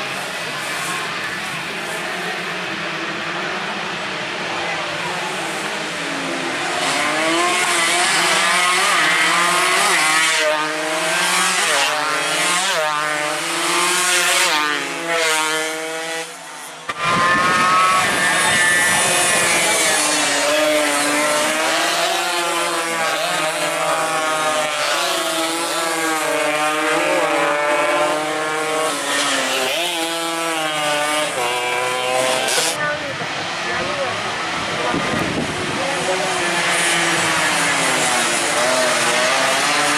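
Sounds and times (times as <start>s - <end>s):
racing motorcycles revving past: 5.5s - 39.9s.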